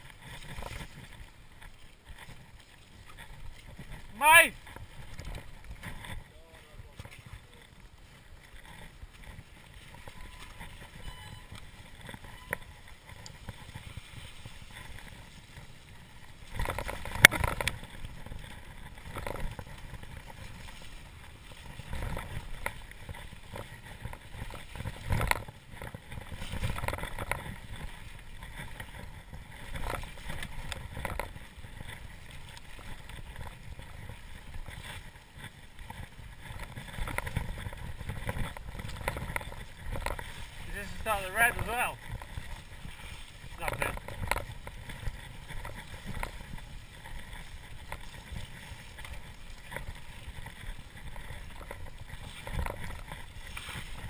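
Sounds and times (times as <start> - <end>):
bike rattling: 0.0 - 54.0
bike tyres rumbling on trail: 0.0 - 54.0.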